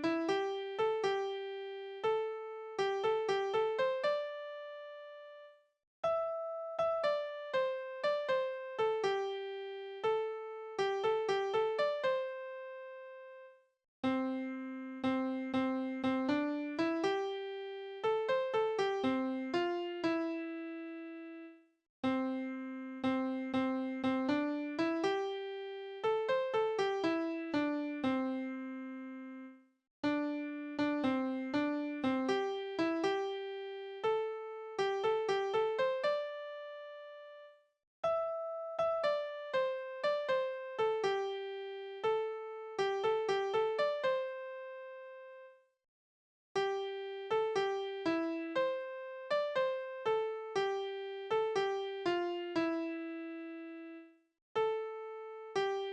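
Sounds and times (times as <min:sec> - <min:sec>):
computer piano melody: 0:00.0 - 0:45.5, 0:46.6 - 0:55.9.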